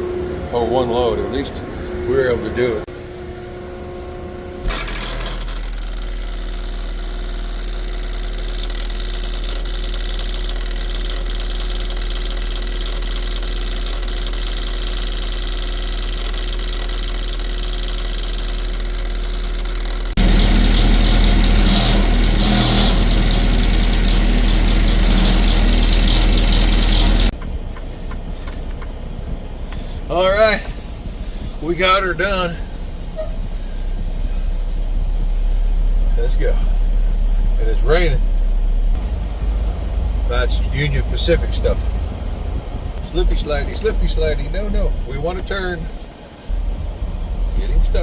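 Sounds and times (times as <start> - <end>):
truck diesel engine running: 0.0 - 48.0.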